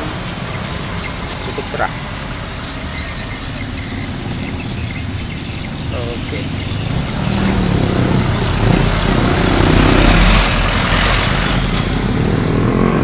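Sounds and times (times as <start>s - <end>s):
traffic noise: 0.0s - 13.0s
truck engine passing by: 0.0s - 13.0s.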